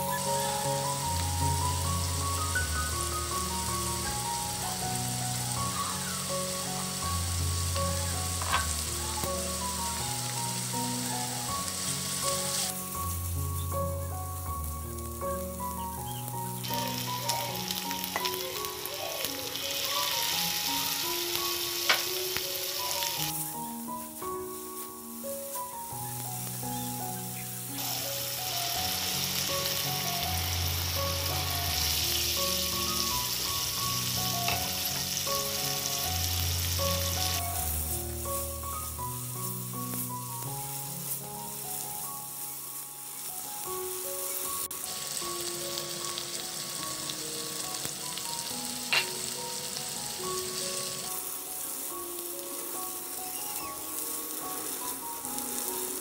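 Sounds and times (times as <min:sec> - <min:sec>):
background music: 0:00.0 - 0:56.0
prawns sizzling in a pan: 0:00.0 - 0:56.0.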